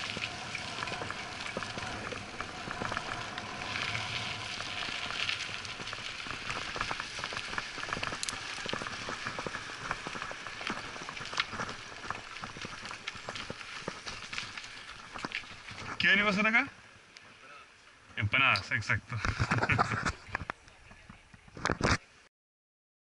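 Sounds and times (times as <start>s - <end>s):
bike tyres rolling on gravel: 0.0s - 22.0s.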